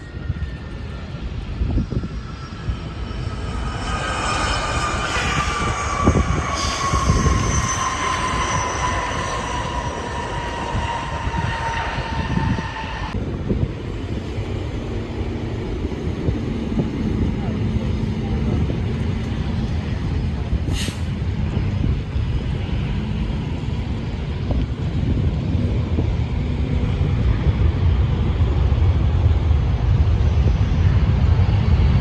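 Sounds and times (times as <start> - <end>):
jet airliner whine: 0.0 - 32.0
low jet rumble: 0.0 - 32.0.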